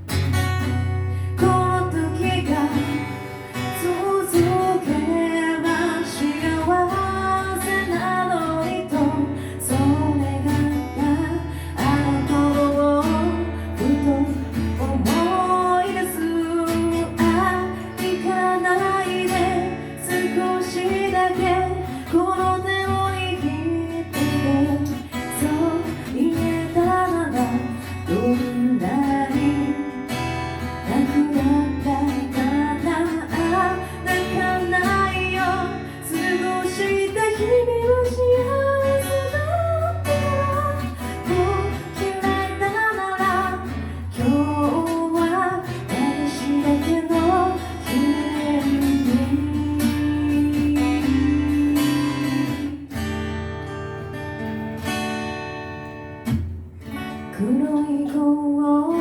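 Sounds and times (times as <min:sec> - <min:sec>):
acoustic guitar accompaniment: 0:00.0 - 0:59.0
person singing: 0:01.1 - 0:52.9, 0:57.4 - 0:59.0.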